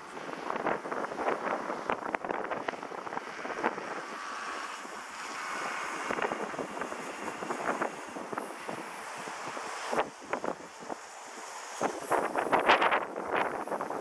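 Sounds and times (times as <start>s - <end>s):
rc helicopter whine: 0.0s - 14.0s
wind buffeting microphone: 0.0s - 14.0s.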